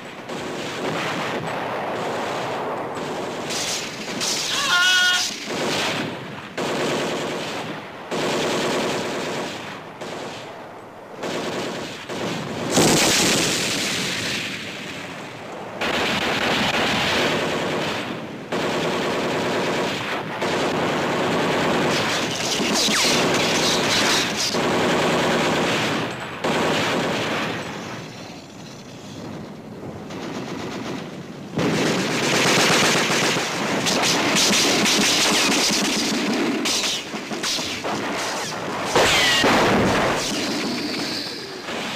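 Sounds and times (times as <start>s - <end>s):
machine-gun fire: 0.2s - 10.4s, 11.2s - 15.0s, 15.8s - 27.8s, 30.0s - 41.9s.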